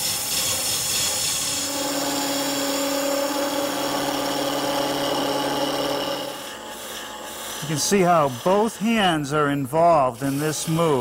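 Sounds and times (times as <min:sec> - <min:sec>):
gouge hissing into wood: 0:00.0 - 0:11.0
wood lathe running: 0:00.0 - 0:11.0
steady hum: 0:01.5 - 0:11.0.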